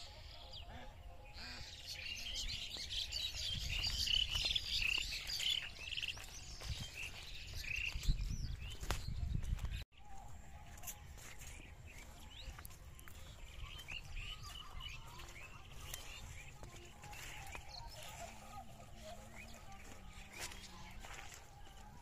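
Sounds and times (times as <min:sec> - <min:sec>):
small birds chirping: 0:00.0 - 0:09.8, 0:10.7 - 0:22.0.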